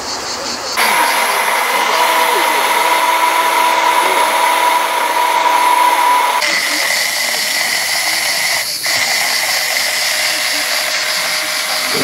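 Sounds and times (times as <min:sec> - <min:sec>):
stick blender motor whine: 0:00.8 - 0:12.0.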